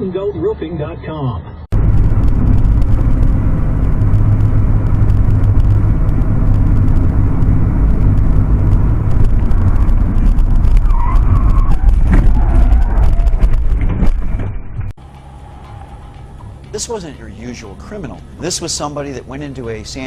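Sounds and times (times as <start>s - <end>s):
road vehicle rumble: 0.0s - 20.0s.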